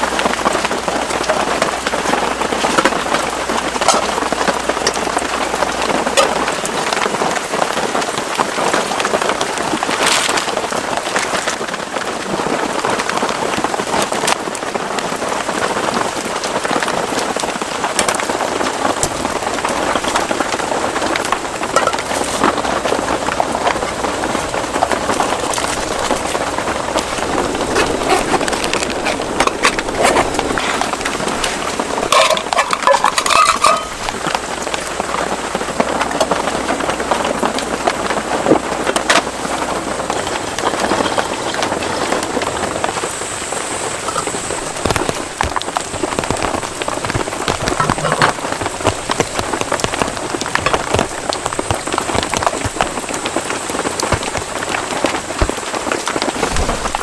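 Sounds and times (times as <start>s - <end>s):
steady rain with drop ticks: 0.0s - 57.0s.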